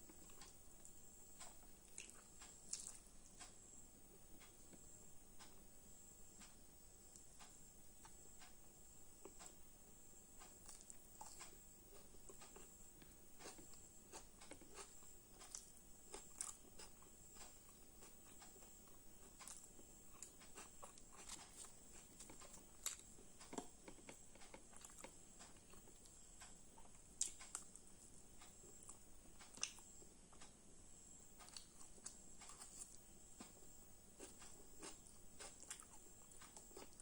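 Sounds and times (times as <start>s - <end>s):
person chewing food: 0.0s - 3.6s, 6.3s - 9.7s, 10.3s - 30.6s, 31.3s - 37.0s
faint high-pitched hiss: 0.0s - 37.0s.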